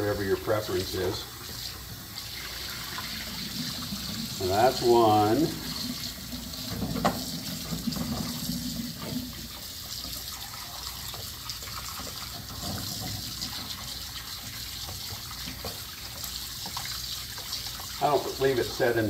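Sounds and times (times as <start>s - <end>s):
faucet running into a container: 0.0s - 19.0s.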